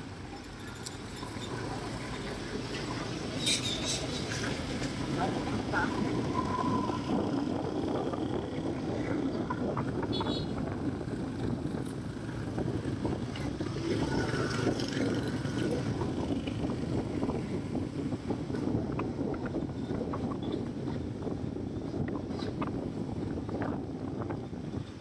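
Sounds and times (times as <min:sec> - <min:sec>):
wind on microphone: 0:00.0 - 0:25.0
motorbikes passing: 0:00.4 - 0:22.7.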